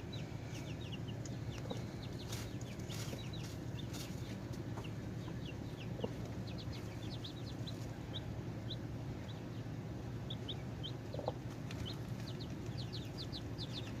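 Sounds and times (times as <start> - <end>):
chicks peeping: 0.0 - 14.0
hen clucking: 0.0 - 14.0
steady low hum: 0.0 - 14.0.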